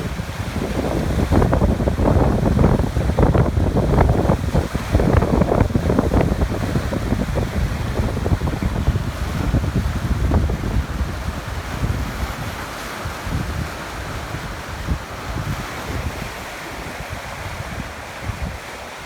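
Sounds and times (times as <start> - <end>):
waves washing on coast: 0.0 - 19.0
wind buffeting microphone: 0.0 - 19.0.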